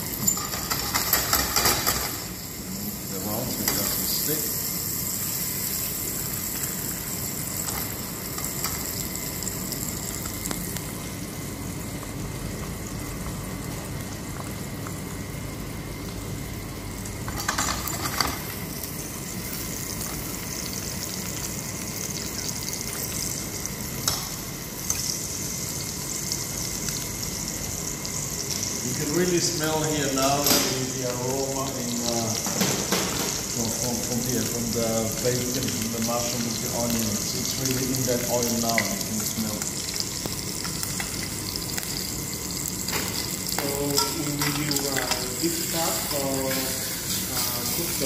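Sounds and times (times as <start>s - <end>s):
food sizzling in a pan: 0.0s - 48.0s.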